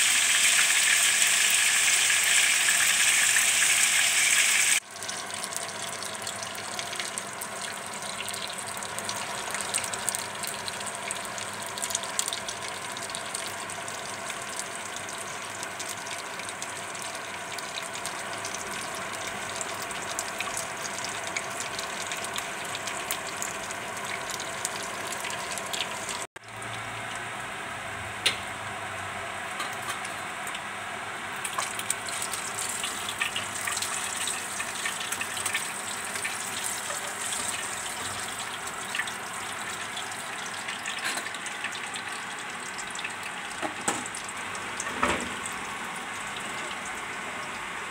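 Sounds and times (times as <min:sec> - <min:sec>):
fish sizzling in oil: 0:00.0 - 0:27.2, 0:31.3 - 0:47.2.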